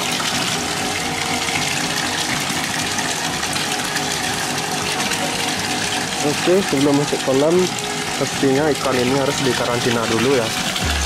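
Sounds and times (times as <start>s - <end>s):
low motor hum: 0.0s - 11.0s
water pouring into tank: 0.0s - 11.0s.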